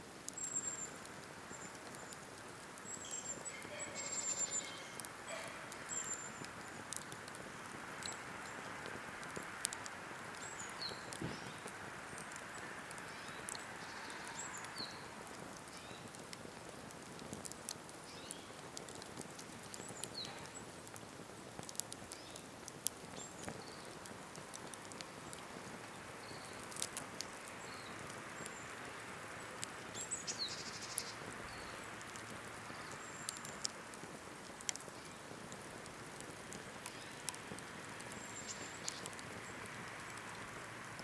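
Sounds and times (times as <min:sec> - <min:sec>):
campfire crackling and popping: 0:00.0 - 0:41.0
small birds chirping: 0:00.3 - 0:40.6.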